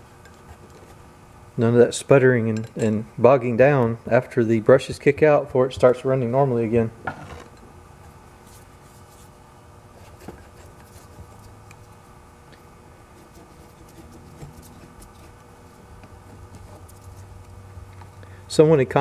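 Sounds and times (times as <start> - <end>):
faint background hum: 0.0 - 19.0.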